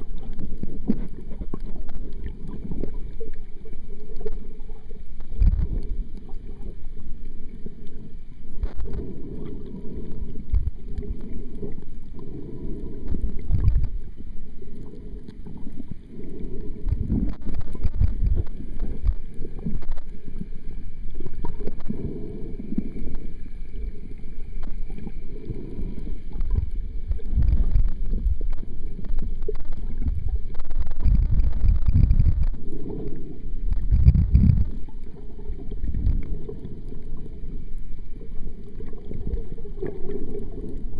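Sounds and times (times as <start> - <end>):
underwater swishing and rumbling: 0.0 - 40.9.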